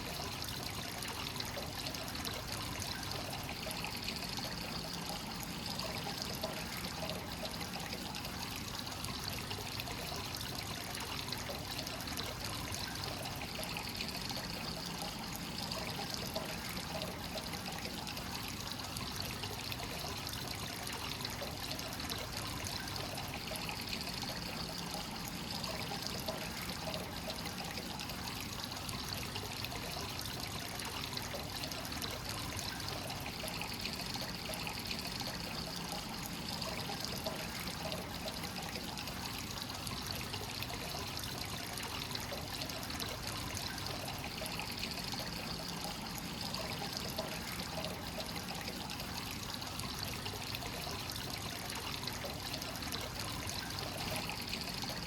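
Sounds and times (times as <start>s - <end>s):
water pouring into a rock bath: 0.0s - 55.0s.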